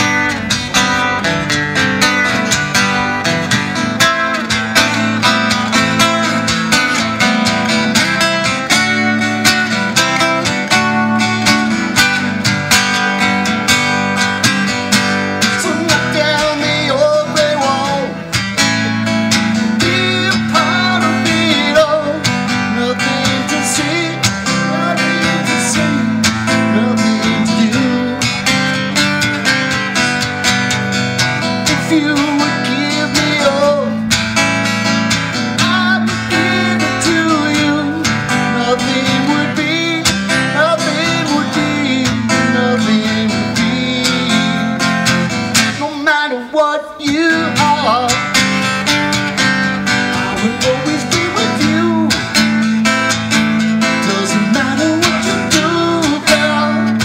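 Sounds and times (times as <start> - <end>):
man singing: 0.0 - 12.3, 15.3 - 29.3, 31.4 - 34.2, 35.2 - 57.0
acoustic guitar strummed: 0.0 - 57.0.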